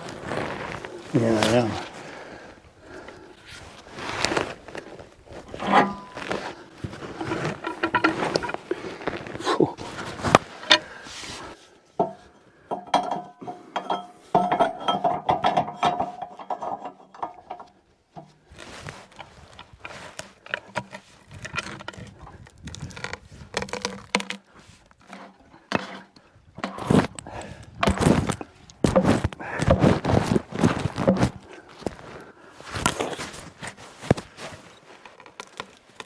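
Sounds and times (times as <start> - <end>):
log rolling on steel bed: 0.0 - 31.4.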